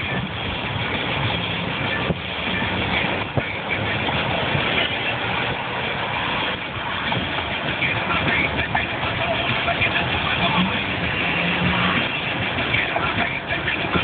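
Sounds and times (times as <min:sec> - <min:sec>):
car road noise: 0:00.0 - 0:14.0
passing traffic: 0:00.0 - 0:14.0.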